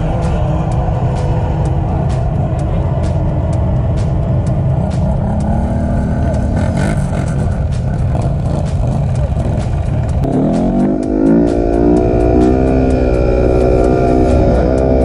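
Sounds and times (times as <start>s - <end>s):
engine revving: 0.0s - 15.0s
quad engines rumbling: 0.0s - 15.0s.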